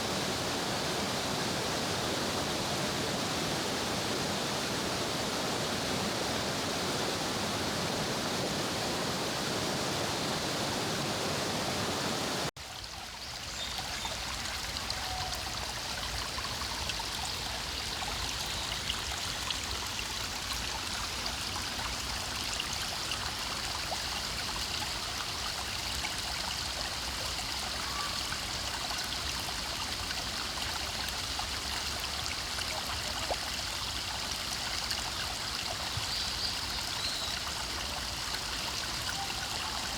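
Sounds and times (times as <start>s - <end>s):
small cascade rushing: 0.0s - 39.9s
stream babbling over rocks: 0.0s - 39.9s.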